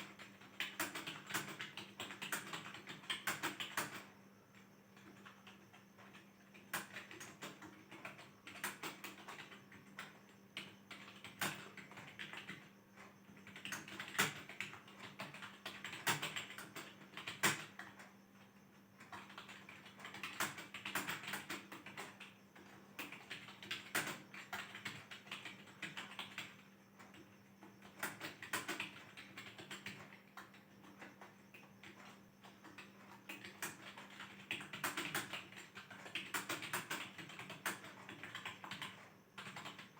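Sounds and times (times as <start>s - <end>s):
computer keyboard typing: 0.0s - 18.2s, 19.0s - 39.9s.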